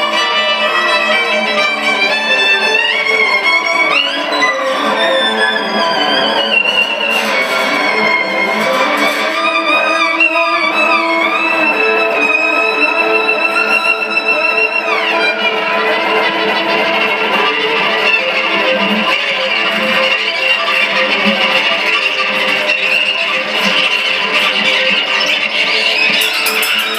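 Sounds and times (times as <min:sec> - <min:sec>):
guitar accompaniment: 0:00.0 - 0:26.9
violin solo: 0:00.0 - 0:26.9.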